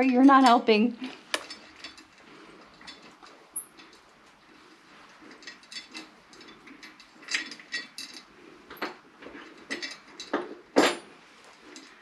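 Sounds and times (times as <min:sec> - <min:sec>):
small metal clinks and taps: 0:00.0 - 0:12.0.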